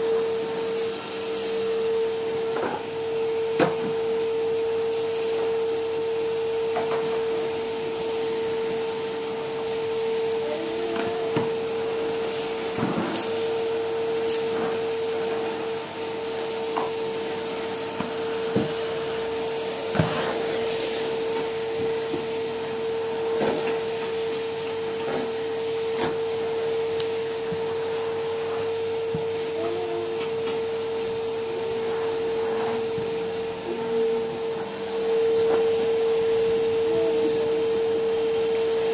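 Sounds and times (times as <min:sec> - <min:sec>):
vacuum cleaner whine and hiss: 0:00.0 - 0:38.9.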